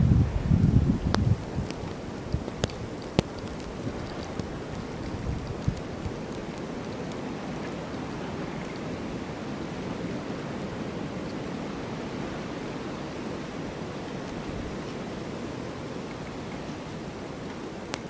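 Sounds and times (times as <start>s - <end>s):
snowstorm wind blowing: 0.0s - 18.0s.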